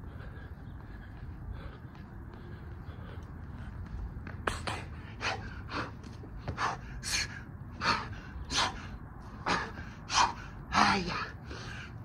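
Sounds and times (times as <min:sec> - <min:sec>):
man breathing hard: 0:00.0 - 0:12.0.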